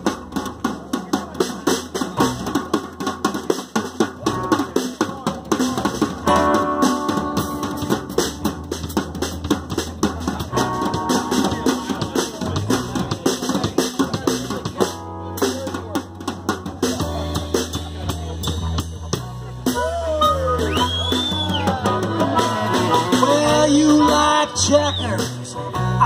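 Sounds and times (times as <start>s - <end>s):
drum kit steady beat: 0.0s - 26.0s.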